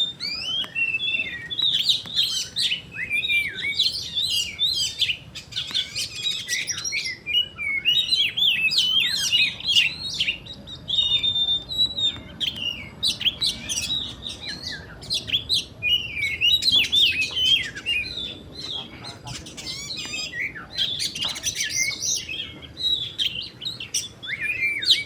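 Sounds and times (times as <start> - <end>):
bird singing varied song: 0.0 - 25.0.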